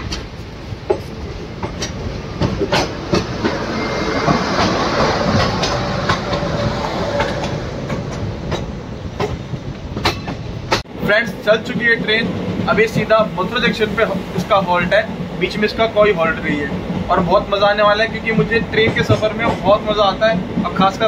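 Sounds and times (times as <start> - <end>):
train rumble: 0.0 - 21.0
wheels clicking over rail joints: 0.0 - 21.0.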